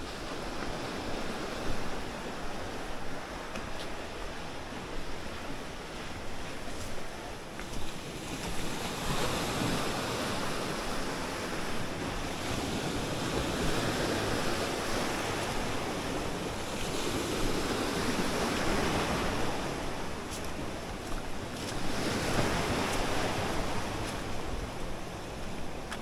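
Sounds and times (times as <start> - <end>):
waves washing against rocks: 0.0 - 26.0.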